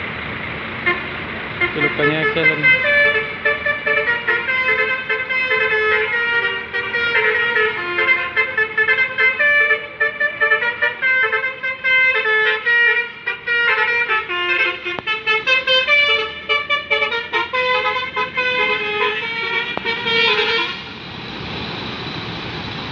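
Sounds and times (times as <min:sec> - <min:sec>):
bus engine: 0:00.0 - 0:22.9
multi-tone air horn tune: 0:01.6 - 0:20.9.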